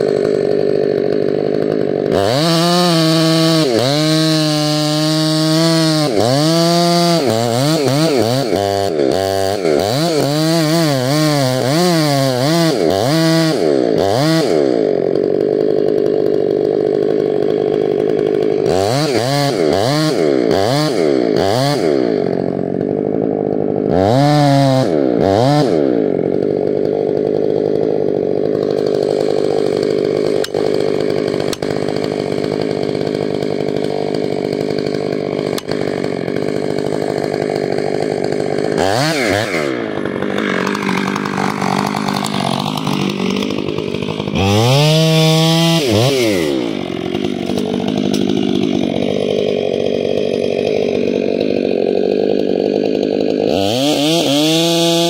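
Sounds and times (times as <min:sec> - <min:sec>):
chainsaw running and revving: 0:00.0 - 0:55.0.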